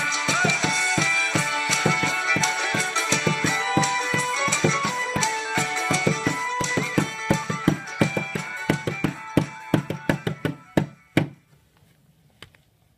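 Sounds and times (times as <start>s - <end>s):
song with pitched instruments: 0.0s - 11.2s
frame drum beaten with stick: 0.0s - 11.4s.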